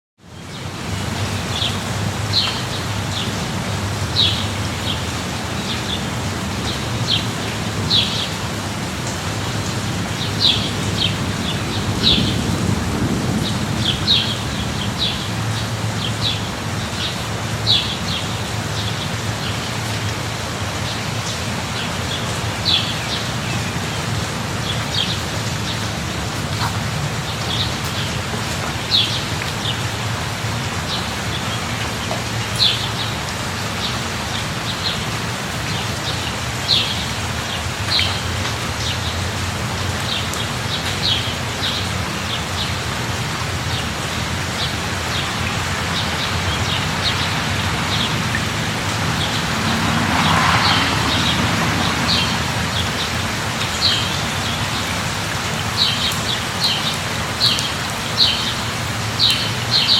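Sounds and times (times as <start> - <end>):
rain falling: 0.3 - 59.9.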